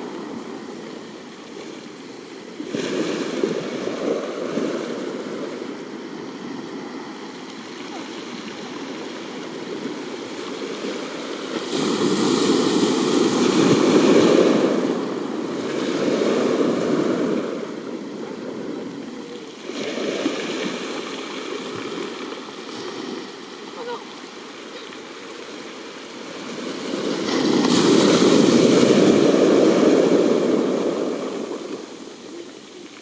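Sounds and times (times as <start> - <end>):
sea waves surging and washing back: 0.0 - 33.0.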